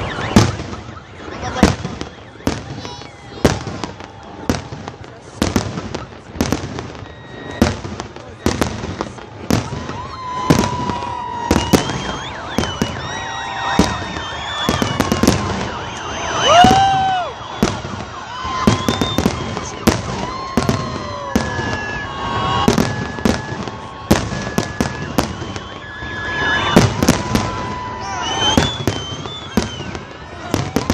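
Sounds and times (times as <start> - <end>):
firework bangs and crackling: 0.0 - 30.9
whistling fireworks: 0.0 - 30.9.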